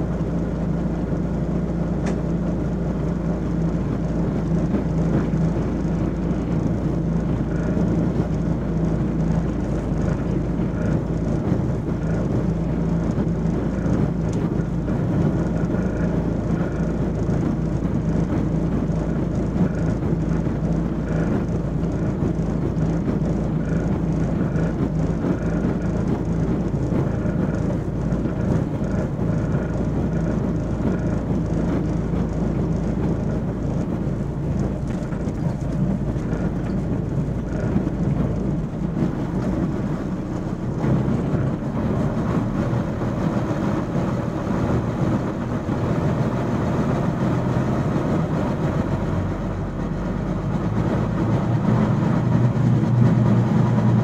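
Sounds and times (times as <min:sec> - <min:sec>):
bus engine hum: 0:00.0 - 0:54.0
road and body noise: 0:00.0 - 0:54.0.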